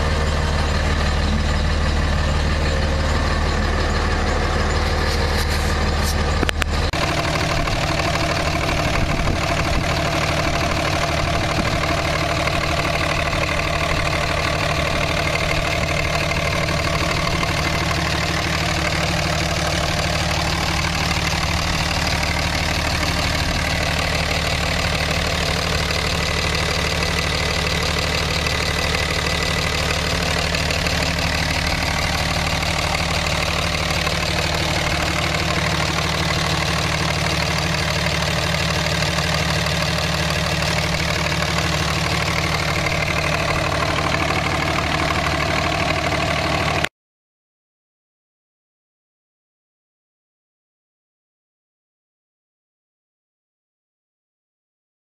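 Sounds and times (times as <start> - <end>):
pickup engine idling: 0.0 - 46.9.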